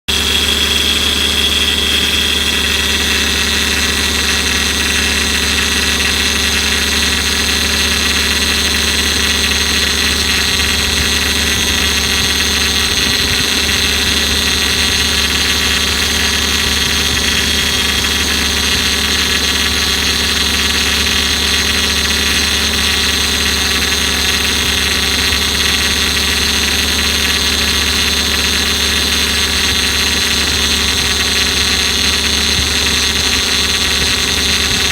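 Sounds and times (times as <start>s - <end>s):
car engine idling: 0.0s - 34.9s
high-pitched pump whine: 0.0s - 34.9s.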